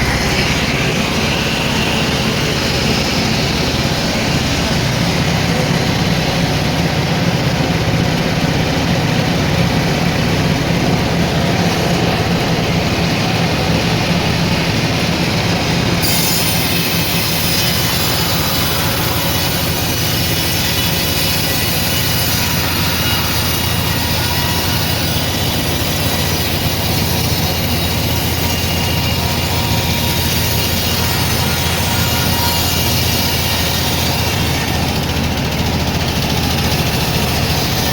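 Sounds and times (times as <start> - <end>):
sawmill saw cutting log: 0.0 - 37.9.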